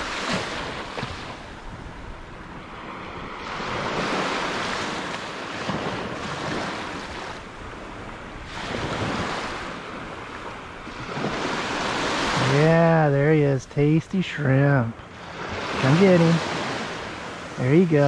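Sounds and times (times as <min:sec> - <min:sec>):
waves washing on sandy beach: 0:00.0 - 0:18.0.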